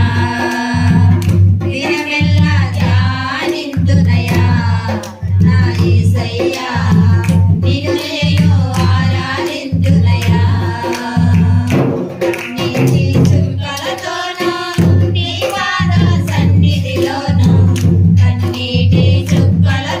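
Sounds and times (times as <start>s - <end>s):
rhythmic percussion: 0.0s - 20.0s
women singing into a microphone: 0.0s - 20.0s.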